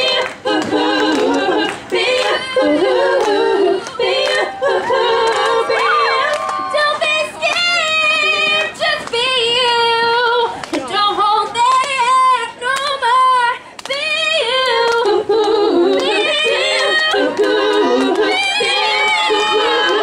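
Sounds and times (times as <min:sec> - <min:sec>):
women singing pop over pa: 0:00.0 - 0:20.0.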